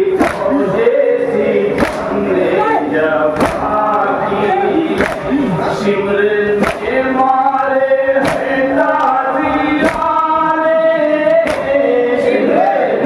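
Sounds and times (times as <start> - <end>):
man singing amplified lament: 0.0 - 12.6
crowd of men chanting: 0.0 - 13.0.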